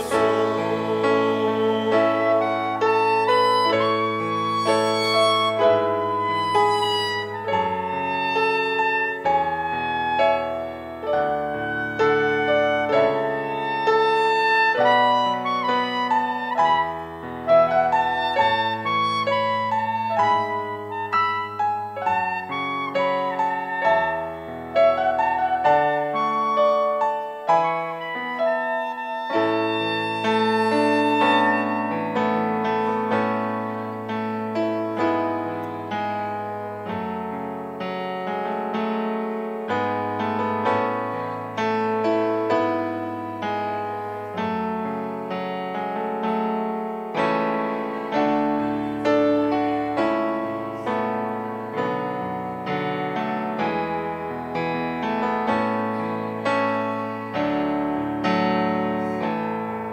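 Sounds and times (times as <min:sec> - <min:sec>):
piano chords: 0:00.0 - 0:59.9
smooth instrumental melody line: 0:00.0 - 0:59.9.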